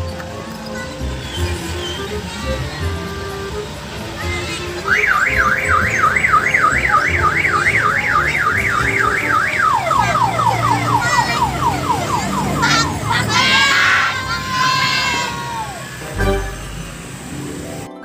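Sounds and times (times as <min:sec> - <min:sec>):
electronic siren warbling: 0:01.4 - 0:17.7.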